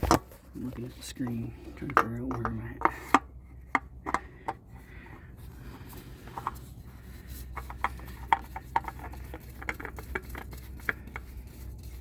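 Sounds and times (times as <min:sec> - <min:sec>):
oil filter clicking and rubbing: 0:00.0 - 0:12.0
steady low hum: 0:00.0 - 0:12.0.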